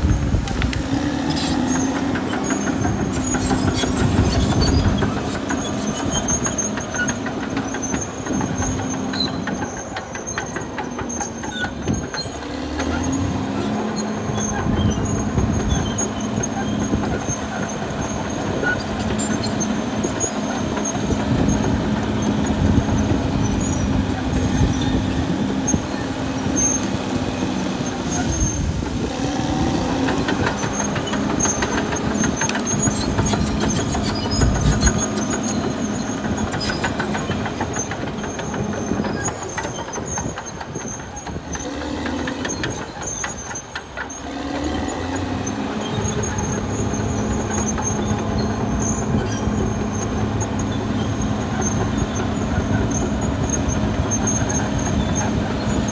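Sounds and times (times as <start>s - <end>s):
bulldozer diesel engine running: 0.0s - 55.9s
steel tracks clanking and squealing: 0.0s - 55.9s.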